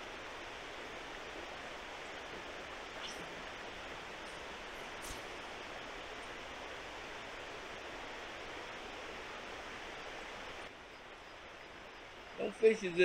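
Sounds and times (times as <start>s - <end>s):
river water rushing: 0.0s - 10.7s.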